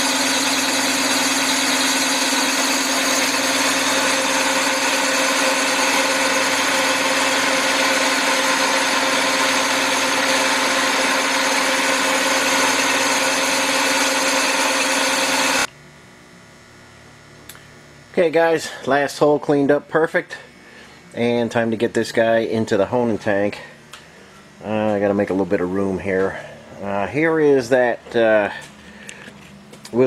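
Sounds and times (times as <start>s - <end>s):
boring machine humming: 0.0s - 30.0s.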